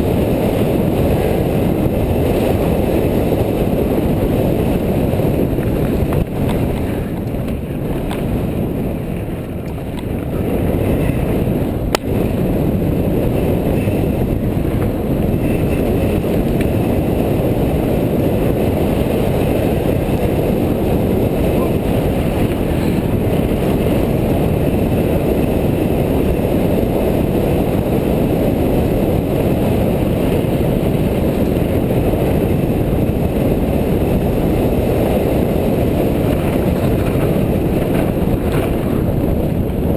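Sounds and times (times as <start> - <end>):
tyres rumbling on gravel: 0.0 - 39.9
wind rushing over microphone: 0.0 - 39.9.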